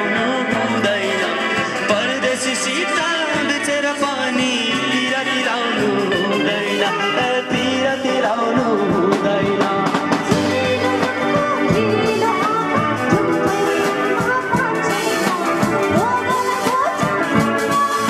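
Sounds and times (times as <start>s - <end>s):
electric guitar: 0.0s - 18.0s
voices singing: 0.0s - 18.0s.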